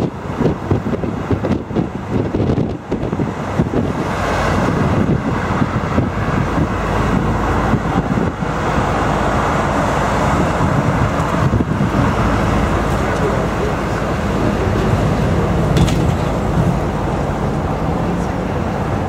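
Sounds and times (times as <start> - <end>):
bus engine rumble: 0.0 - 19.0
passing road traffic: 0.0 - 19.0
wind buffeting microphone: 0.0 - 19.0.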